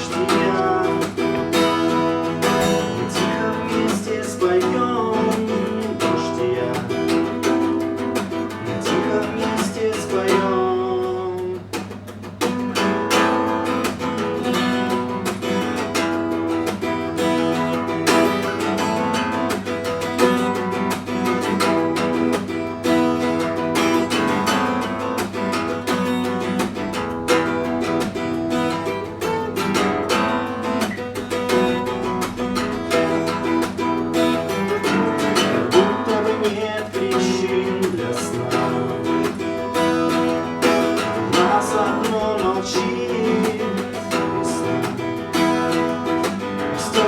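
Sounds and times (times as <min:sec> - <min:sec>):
acoustic guitar strummed and plucked: 0:00.0 - 0:47.0.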